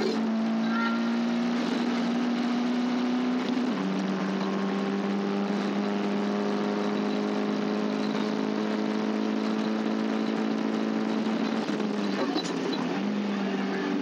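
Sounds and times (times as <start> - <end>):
race car engine revving: 0.0 - 14.0.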